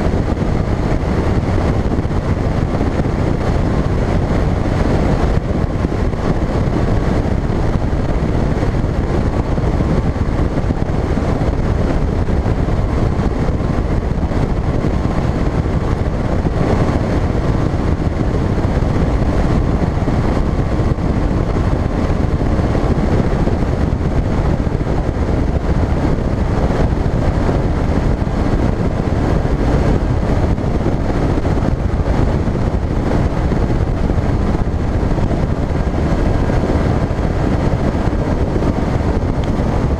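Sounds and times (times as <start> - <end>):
hull cutting through water: 0.0 - 39.9
outboard motor drone: 0.0 - 39.9
wind on microphone: 0.0 - 39.9.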